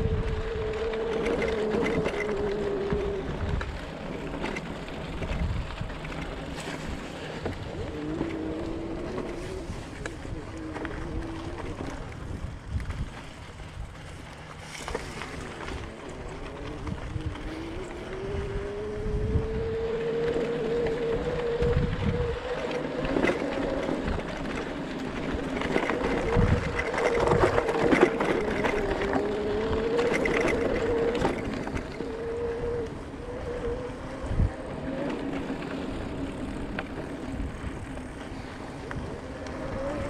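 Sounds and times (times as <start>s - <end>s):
electric bike motor whining: 0.0s - 40.0s
tyres rumbling on dirt trail: 0.0s - 40.0s
wind on microphone: 0.0s - 40.0s.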